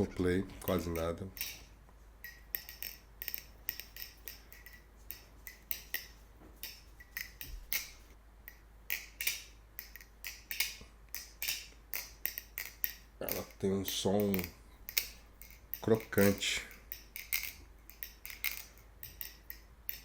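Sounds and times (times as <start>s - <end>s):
butterfly knife clicking: 1.4s - 13.6s, 14.2s - 20.0s.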